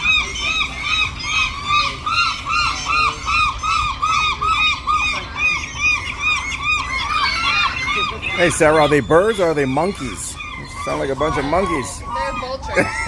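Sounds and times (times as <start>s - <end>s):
gulls squawking: 0.0s - 13.0s.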